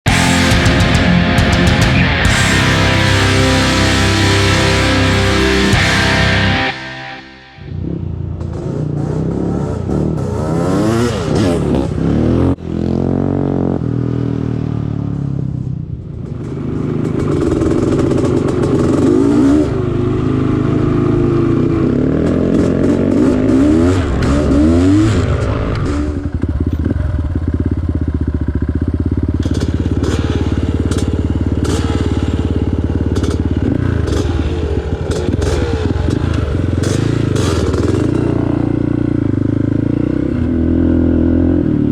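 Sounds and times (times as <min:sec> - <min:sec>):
off-road vehicle engine revving: 0:00.1 - 0:06.7, 0:07.7 - 0:13.7, 0:16.6 - 0:26.5, 0:29.4 - 0:41.9.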